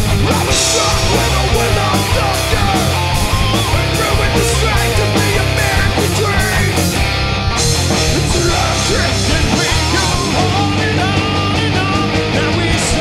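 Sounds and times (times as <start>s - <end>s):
man singing: 0.0s - 7.0s, 8.0s - 13.0s
heavy rock band playing: 0.0s - 13.0s.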